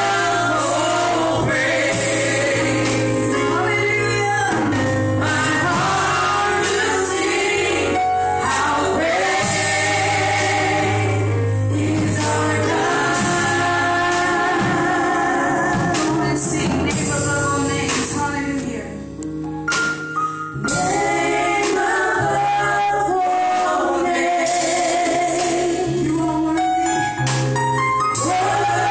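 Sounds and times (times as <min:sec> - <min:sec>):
choir singing gospel song: 0:00.0 - 0:18.9, 0:20.5 - 0:27.4, 0:28.1 - 0:28.9
instrumental backing with bass: 0:00.0 - 0:28.9.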